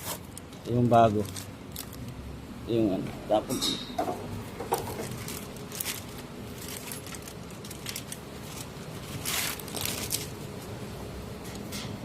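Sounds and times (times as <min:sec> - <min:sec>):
air filter rustling: 0:00.0 - 0:02.2, 0:04.0 - 0:11.8.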